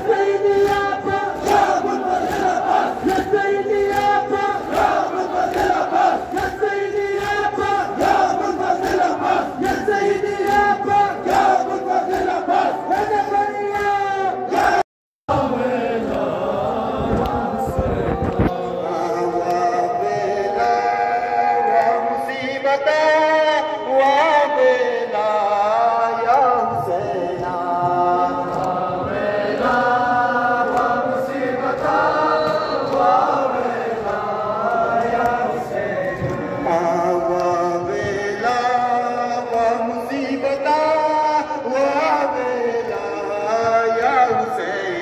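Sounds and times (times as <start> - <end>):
crowd chanting a lament: 0.0 - 45.0.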